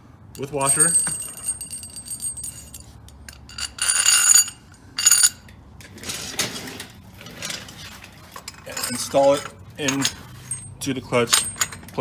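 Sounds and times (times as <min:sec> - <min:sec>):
metal parts clinking and jingling: 0:00.4 - 0:05.5, 0:07.4 - 0:12.0.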